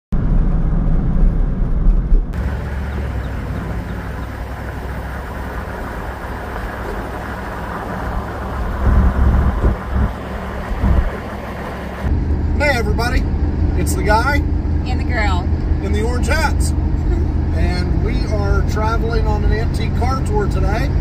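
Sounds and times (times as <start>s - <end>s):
car road and wind noise: 0.1s - 21.0s
low buffets: 0.1s - 21.0s
low rumble: 0.1s - 21.0s.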